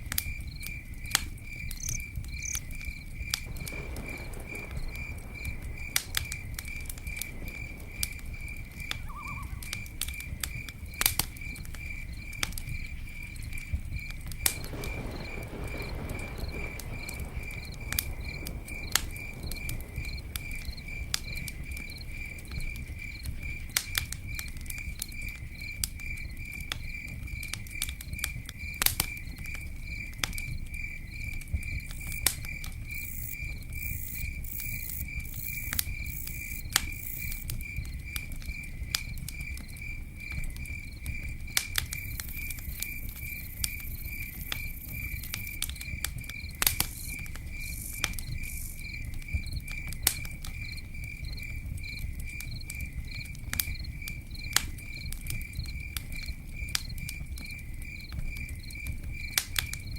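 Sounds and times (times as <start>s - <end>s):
campfire crackling: 0.0s - 59.9s
cricket chirping: 0.0s - 59.9s.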